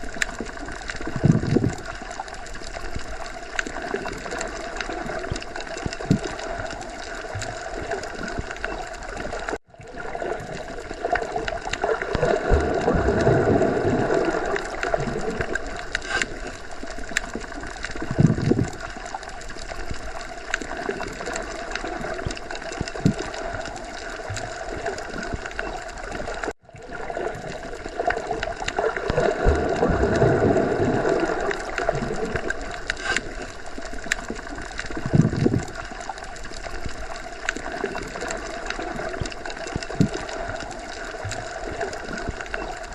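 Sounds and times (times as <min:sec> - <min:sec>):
underwater rushing gurgling water: 0:00.0 - 0:42.9.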